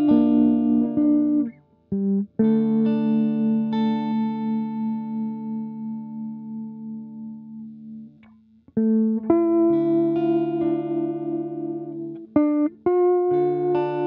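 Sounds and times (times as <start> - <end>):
guitar plucked notes and chords: 0.0 - 14.0.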